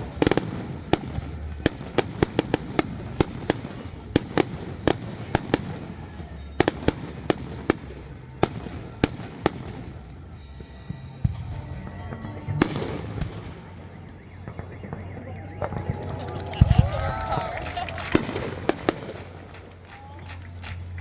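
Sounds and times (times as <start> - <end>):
fireworks cracking and popping: 0.0 - 11.2, 12.0 - 21.0.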